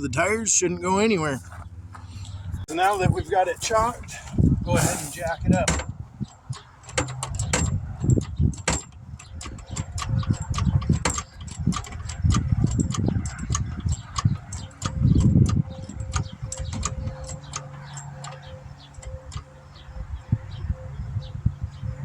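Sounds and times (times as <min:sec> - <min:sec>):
car jack metallic clicks: 0:01.4 - 0:19.9.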